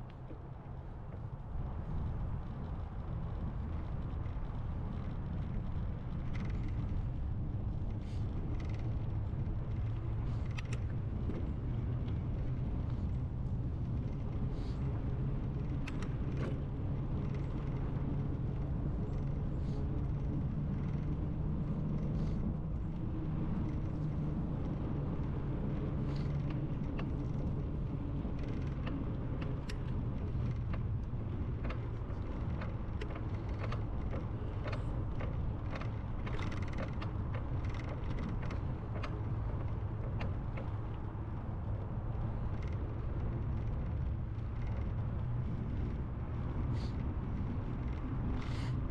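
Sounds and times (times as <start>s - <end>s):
bicycle ride rumble: 0.0s - 48.9s
small clicks and rattles: 0.0s - 48.9s.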